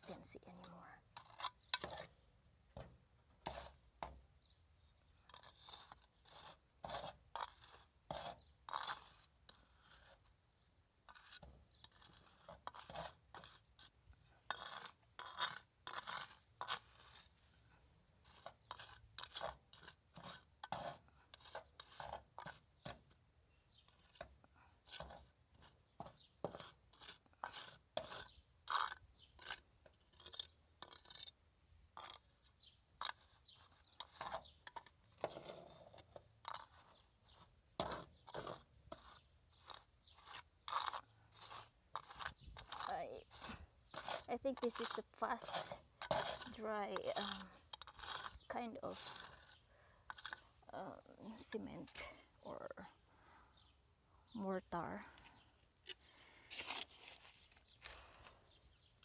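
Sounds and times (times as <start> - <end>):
trowel scraping wet mortar: 0.0 - 52.8, 54.8 - 59.0.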